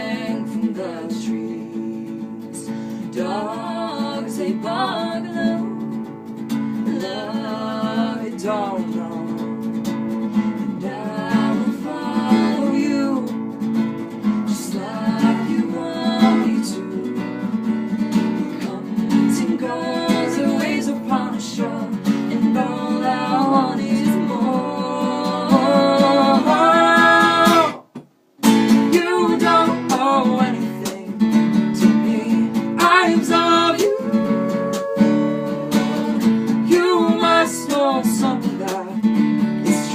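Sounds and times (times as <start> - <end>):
person singing: 0.0 - 6.0, 6.8 - 9.4, 10.7 - 13.4, 14.5 - 17.2, 18.3 - 27.8, 28.8 - 39.0, 39.6 - 39.9
acoustic guitar strumming: 0.0 - 39.9.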